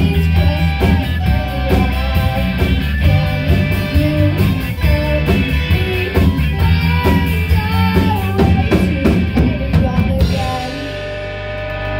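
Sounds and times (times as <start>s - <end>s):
drum kit beat: 0.0s - 11.9s
electric guitars: 0.0s - 11.9s
person singing: 0.0s - 11.9s.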